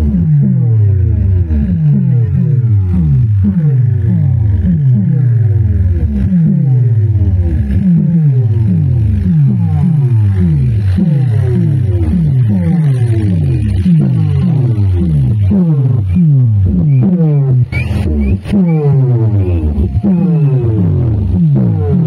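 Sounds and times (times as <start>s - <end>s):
falling bass sweeps: 0.0s - 22.0s.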